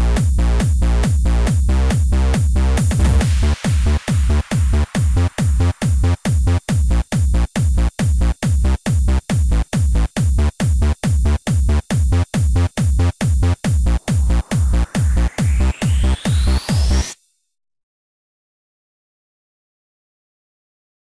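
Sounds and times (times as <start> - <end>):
kick drum: 0.0 - 17.0
trance dance music: 0.0 - 17.2.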